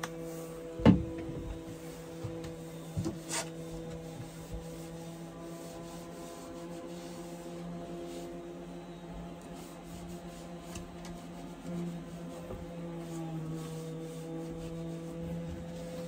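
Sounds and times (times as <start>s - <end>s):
steady low hum: 0.0s - 16.0s
cloth rubbing on wood: 0.2s - 8.7s, 9.4s - 16.0s.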